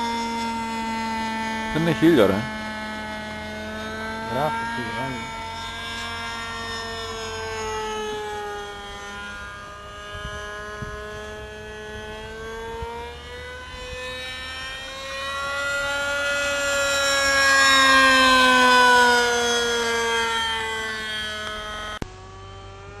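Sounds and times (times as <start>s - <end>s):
model airplane engine whine: 0.0s - 23.0s.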